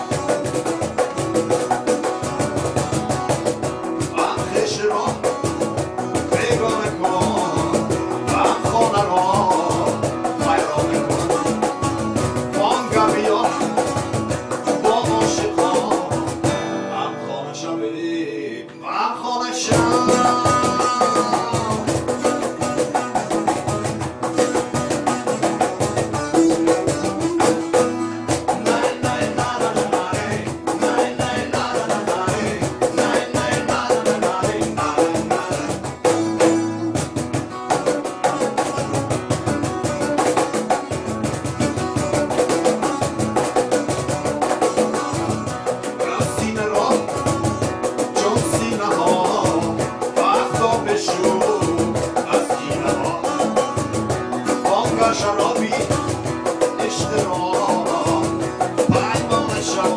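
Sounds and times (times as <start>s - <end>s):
cajon beat: 0.0s - 17.0s, 19.6s - 59.9s
plucked long-necked lute: 0.0s - 17.7s, 19.7s - 59.9s
strummed acoustic guitar: 0.0s - 18.8s, 19.5s - 59.9s
person singing: 4.0s - 40.8s, 41.8s - 59.9s.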